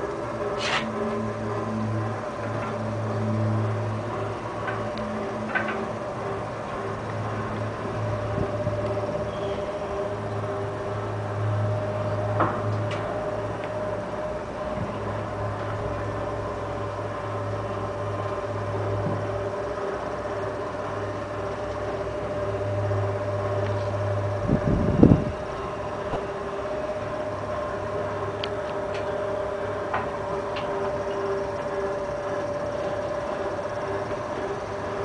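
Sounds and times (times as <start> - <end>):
electric motor hum and whine: 0.0 - 35.0.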